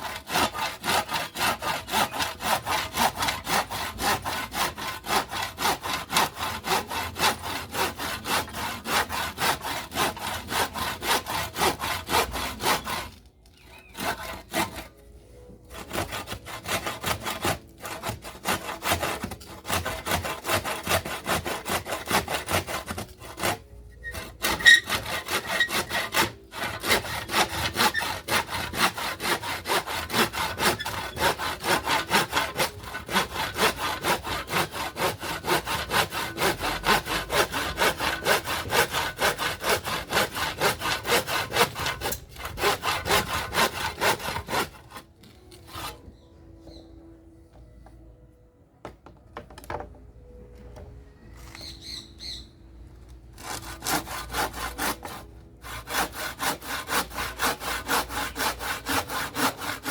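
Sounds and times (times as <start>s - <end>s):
hand saw cutting wood: 0.0s - 46.1s, 53.3s - 59.9s.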